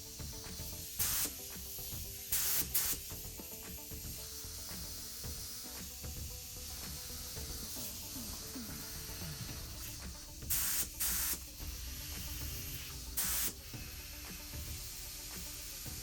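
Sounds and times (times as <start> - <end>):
spray gun hissing: 0.0 - 16.0.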